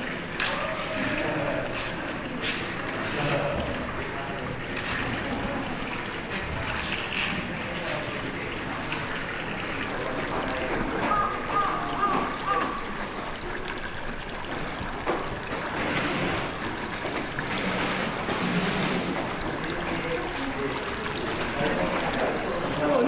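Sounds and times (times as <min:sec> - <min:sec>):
flowing water: 0:00.0 - 0:23.0.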